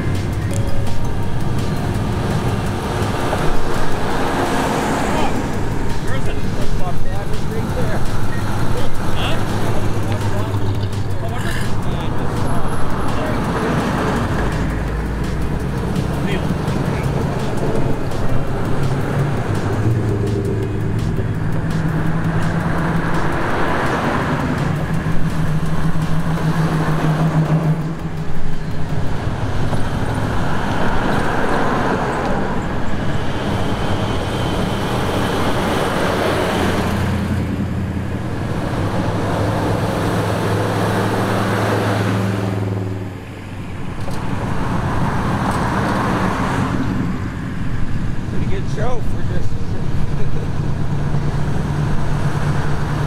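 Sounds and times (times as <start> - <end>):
car engines: 0.0 - 53.0
cars driving past: 0.0 - 53.0.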